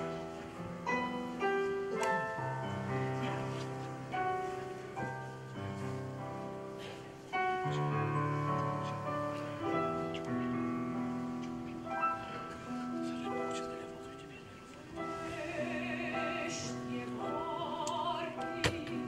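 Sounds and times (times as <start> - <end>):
piano playing slow chords: 0.0 - 19.0.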